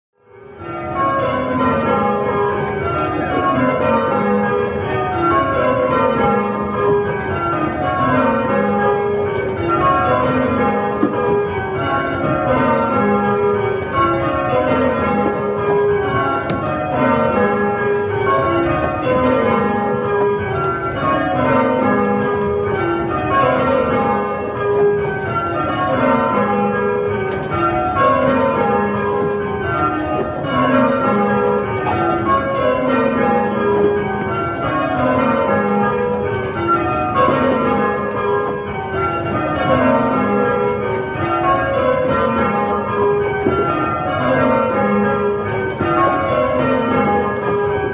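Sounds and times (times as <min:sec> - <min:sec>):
church bells ringing in rounds: 0:00.2 - 0:47.9.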